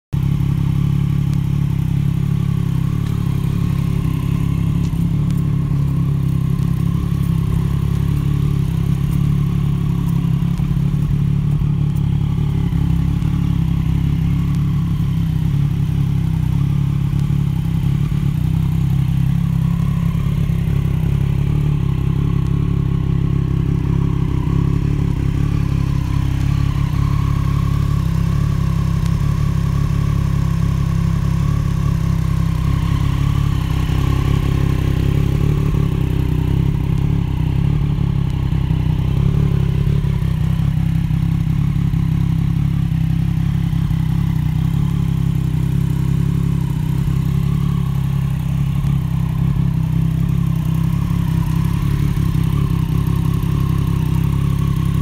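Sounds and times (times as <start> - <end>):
motorcycle engine idling: 0.1 - 55.0.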